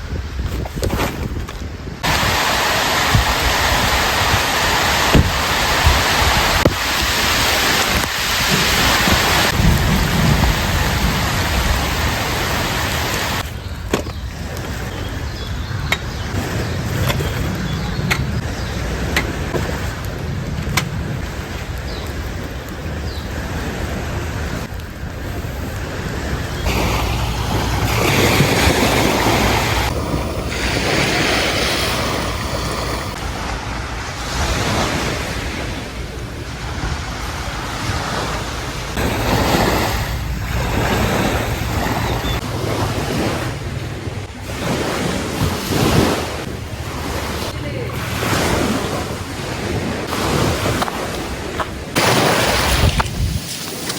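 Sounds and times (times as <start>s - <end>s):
wind buffeting microphone: 0.0s - 53.9s
ocean waves breaking: 2.0s - 13.6s, 14.2s - 53.9s.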